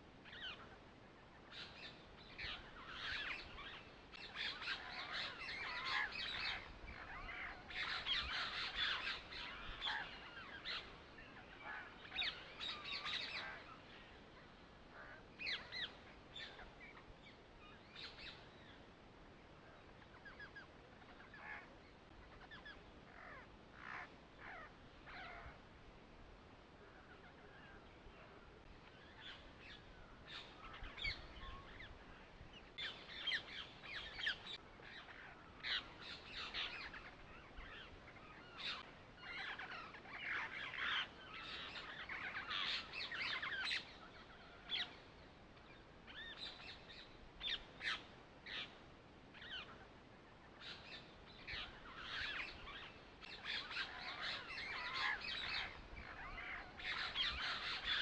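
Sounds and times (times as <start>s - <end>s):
birds chirping: 0.0s - 25.7s, 26.4s - 58.0s.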